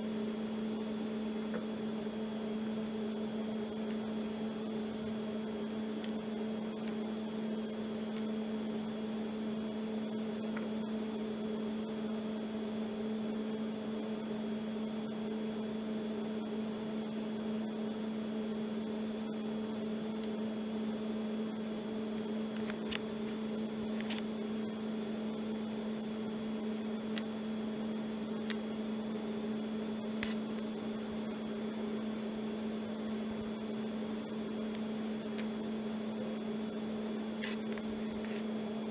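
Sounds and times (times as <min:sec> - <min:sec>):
two-tone electrical hum: 0:00.0 - 0:38.9.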